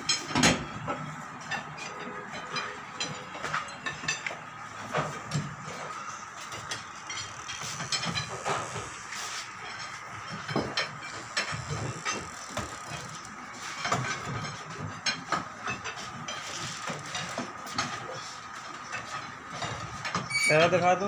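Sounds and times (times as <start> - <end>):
metal clinks and knocks: 0.0 - 20.5.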